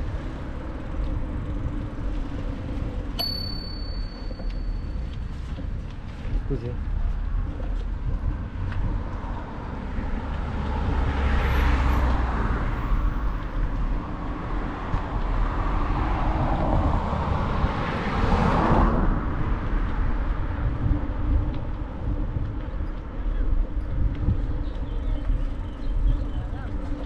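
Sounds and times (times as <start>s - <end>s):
vehicles passing: 0.0s - 27.0s
wind rumble on microphone: 0.0s - 27.0s.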